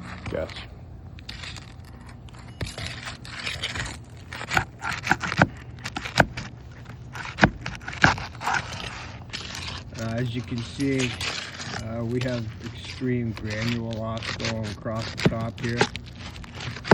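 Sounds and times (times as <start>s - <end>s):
scraping across asphalt shingles: 0.0s - 16.9s.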